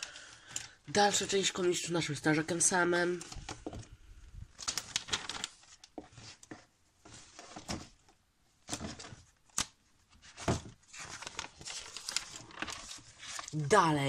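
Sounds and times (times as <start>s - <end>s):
magazine pages rustling: 0.0s - 14.0s.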